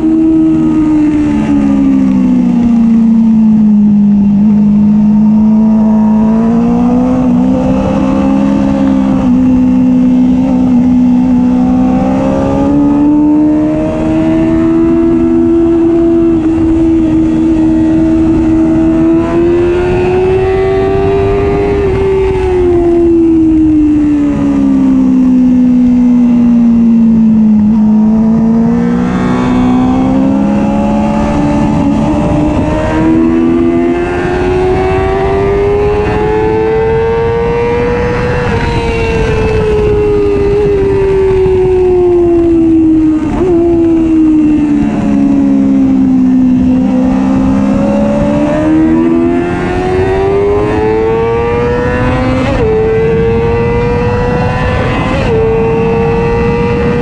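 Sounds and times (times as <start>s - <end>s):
motorcycle engine at high revs: 0.0s - 57.0s
wind rush: 0.0s - 57.0s.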